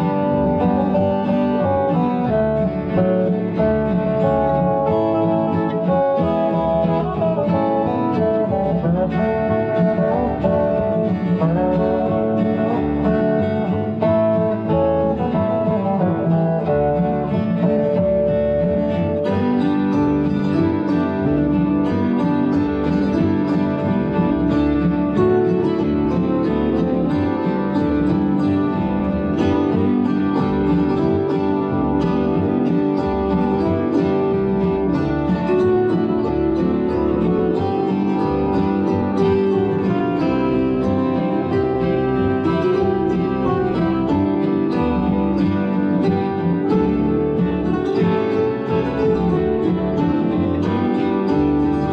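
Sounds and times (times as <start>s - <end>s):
plucked acoustic guitar music: 0.0s - 51.9s.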